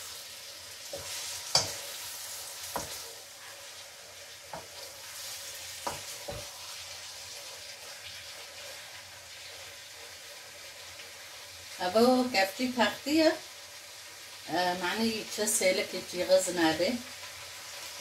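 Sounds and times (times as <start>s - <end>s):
pasta sizzling in a pan: 0.0s - 18.0s.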